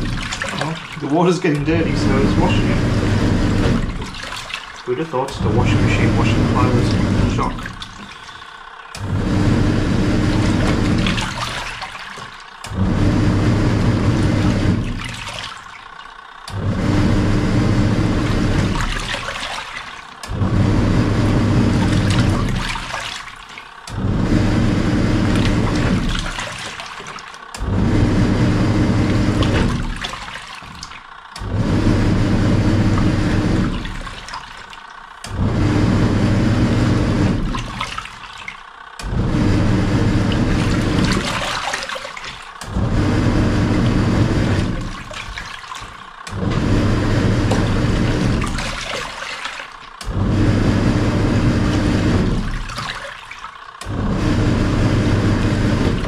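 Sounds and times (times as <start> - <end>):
washing machine agitating: 0.0 - 56.0.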